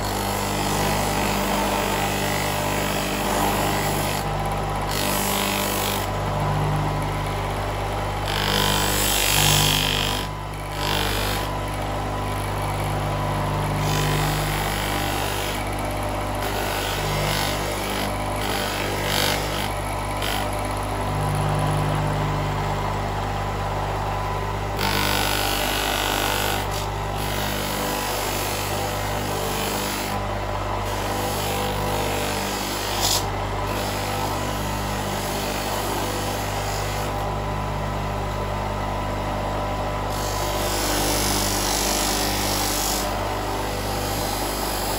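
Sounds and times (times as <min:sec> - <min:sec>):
electric motor humming: 0:00.0 - 0:44.9.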